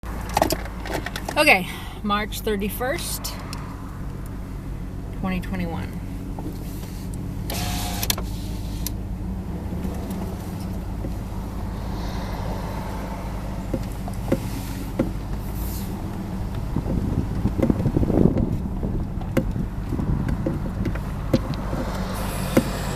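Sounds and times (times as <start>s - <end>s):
engine and road drone: 0.0s - 22.9s.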